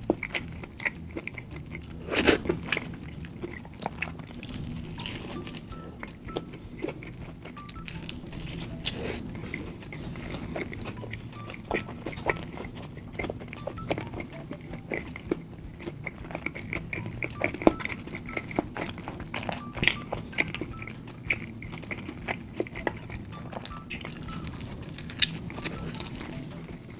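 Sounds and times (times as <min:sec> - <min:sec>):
food crunching: 0:00.0 - 0:26.9
person chewing food: 0:00.0 - 0:26.9
wet mouth clicks: 0:00.0 - 0:26.9.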